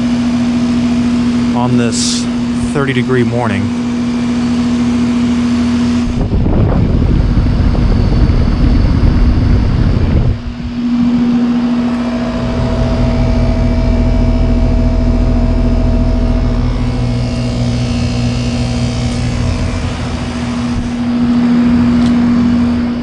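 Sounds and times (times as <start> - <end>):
heat pump humming: 0.0 - 23.0.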